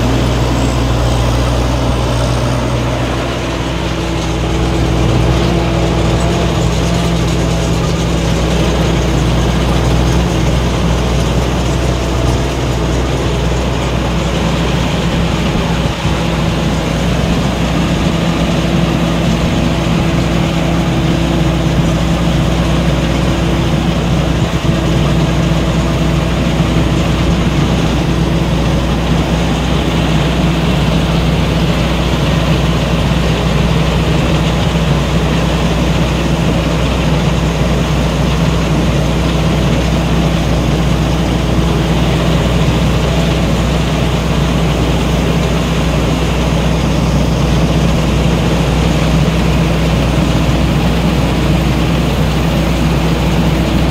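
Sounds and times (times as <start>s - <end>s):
combine harvester humming: 0.0s - 53.9s.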